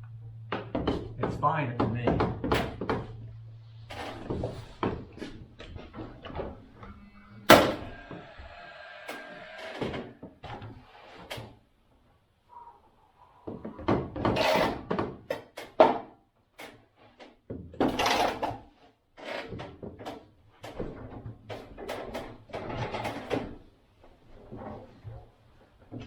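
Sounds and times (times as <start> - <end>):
knocking rubbing and clattering: 0.5 - 11.7, 13.4 - 26.0.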